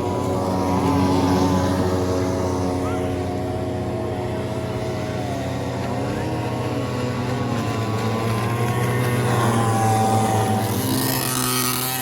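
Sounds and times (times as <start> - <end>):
small boat engines buzzing: 0.0 - 12.0.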